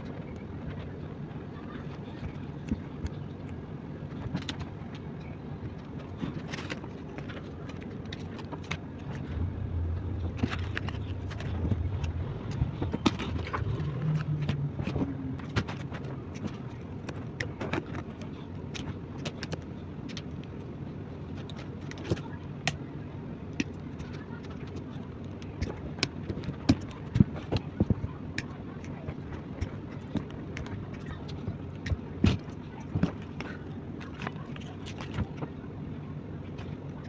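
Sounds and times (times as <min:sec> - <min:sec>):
low steady rumble: 0:00.0 - 0:37.0.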